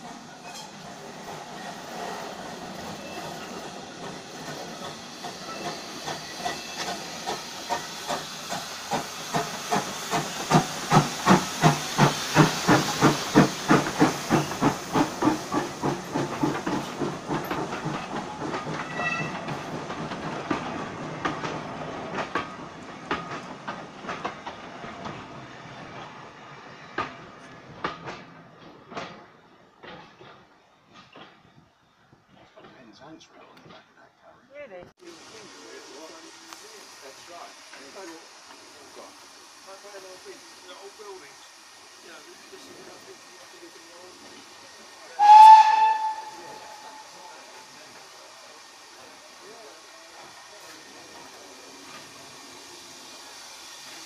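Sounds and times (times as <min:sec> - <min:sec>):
steam locomotive chuffing: 0:00.0 - 0:32.8, 0:35.1 - 0:54.0
train wheels clicking on rails: 0:00.0 - 0:34.0, 0:35.5 - 0:54.0.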